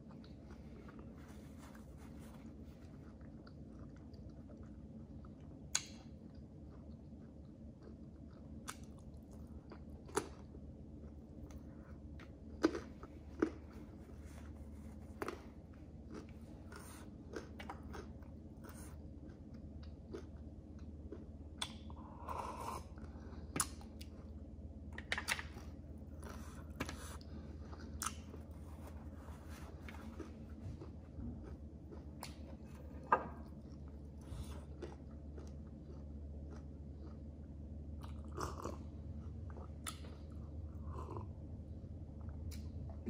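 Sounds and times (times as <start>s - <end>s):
person chewing and crunching food: 0.0s - 43.0s.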